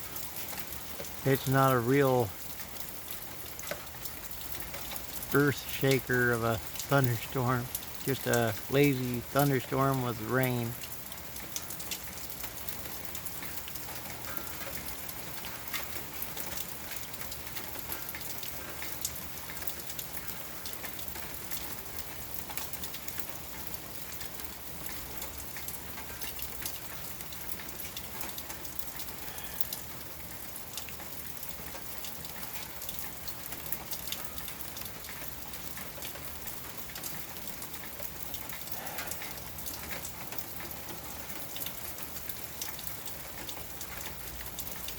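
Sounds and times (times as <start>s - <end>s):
rain pattering on hard surfaces: 0.0s - 44.9s.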